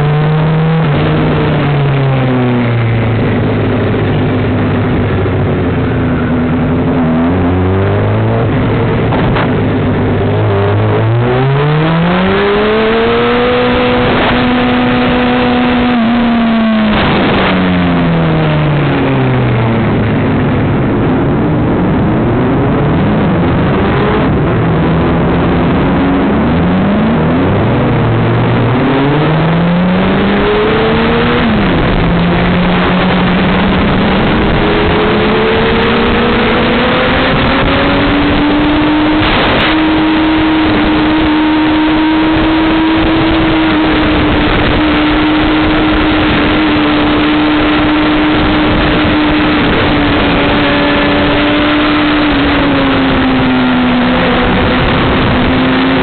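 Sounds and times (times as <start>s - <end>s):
motorcycle engine at speed: 0.0s - 56.0s
wind noise rushing: 0.0s - 56.0s.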